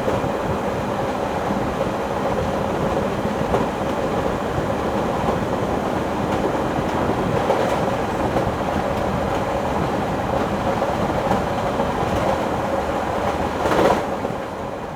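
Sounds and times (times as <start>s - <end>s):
train running on rails: 0.0s - 14.9s.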